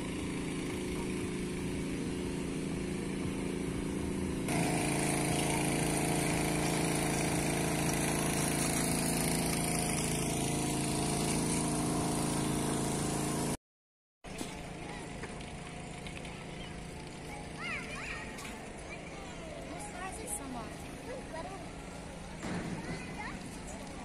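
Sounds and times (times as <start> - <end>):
engine running steadily: 0.0 - 13.6, 14.3 - 24.0.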